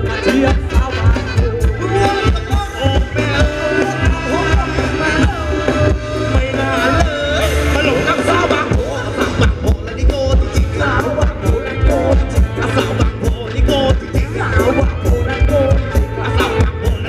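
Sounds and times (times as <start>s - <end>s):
heavy bass line: 0.0s - 17.0s
person singing: 0.0s - 17.0s
steady drum beat: 0.0s - 17.0s.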